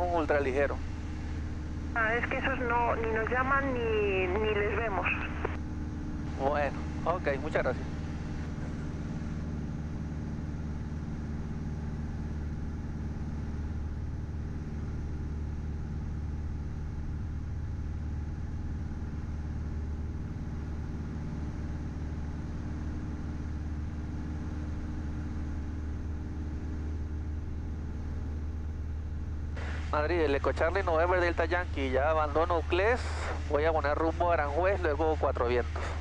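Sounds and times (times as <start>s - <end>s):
aircraft engine and propeller drone: 0.0s - 36.0s.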